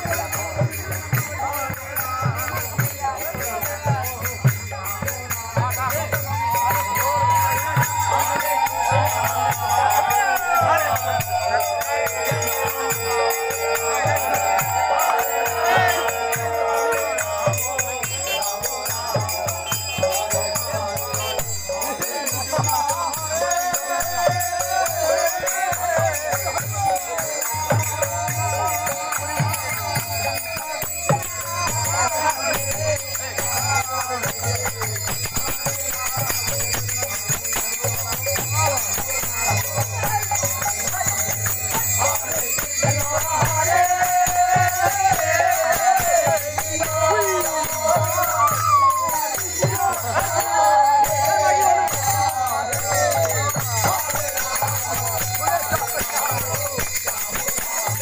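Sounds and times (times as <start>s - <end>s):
drum beat: 0.0s - 58.0s
hand cymbals jangling: 0.0s - 58.0s
voices singing a chant: 0.0s - 58.0s.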